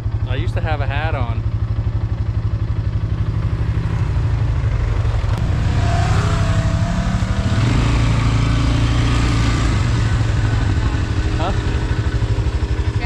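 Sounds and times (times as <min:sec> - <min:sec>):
atv engine accelerating: 0:00.0 - 0:13.0.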